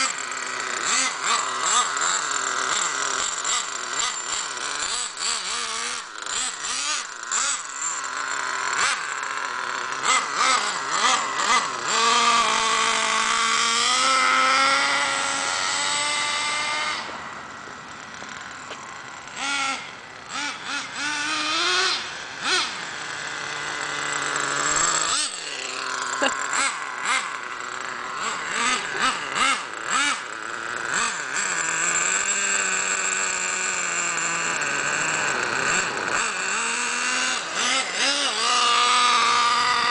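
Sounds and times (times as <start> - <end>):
rc truck nitro engine revving: 0.0 - 39.9.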